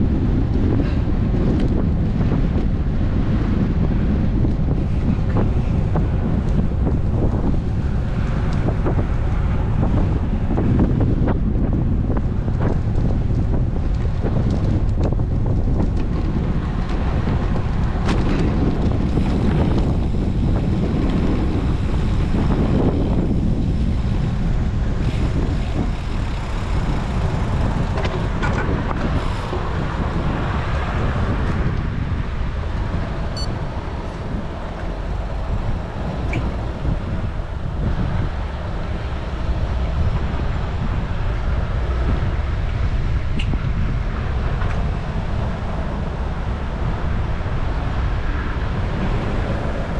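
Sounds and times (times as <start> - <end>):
road traffic noise: 0.0 - 49.9
wind rushing over microphone: 0.0 - 49.9.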